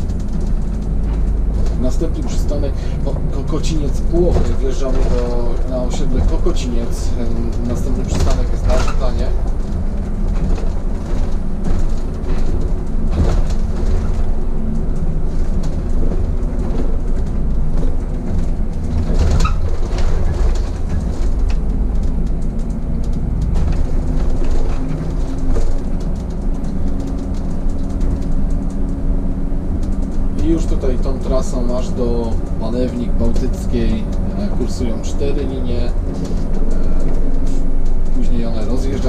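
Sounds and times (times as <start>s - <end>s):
bus body knocks and rattles: 0.0s - 39.0s
bus engine and road rumble: 0.0s - 39.0s.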